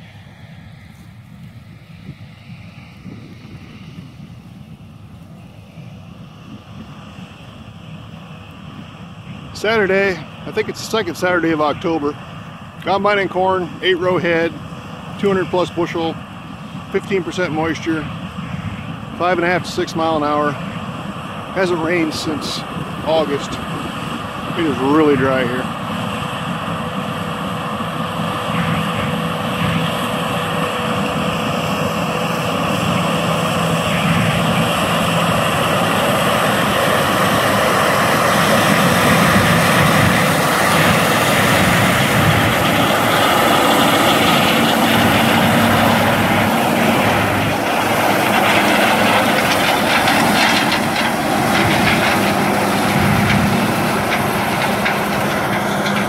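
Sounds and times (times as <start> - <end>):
combine harvester running: 0.0 - 56.0
faint steady whines: 0.0 - 56.0.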